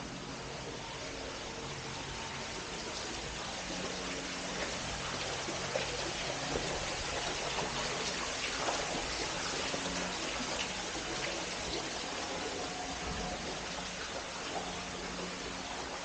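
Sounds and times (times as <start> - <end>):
trickling water hiss: 0.0 - 16.0.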